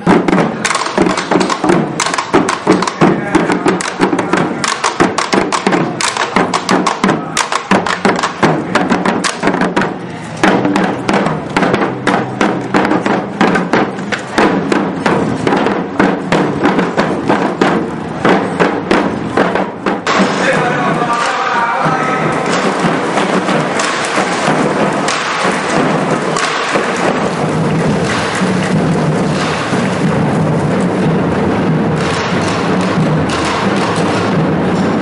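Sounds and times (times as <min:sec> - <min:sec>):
marching drums: 0:00.0 - 0:35.0.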